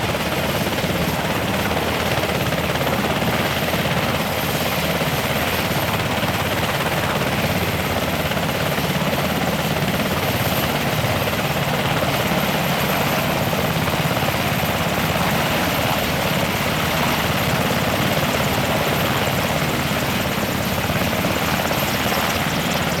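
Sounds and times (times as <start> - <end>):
helicopter rotor chop: 0.0 - 23.0.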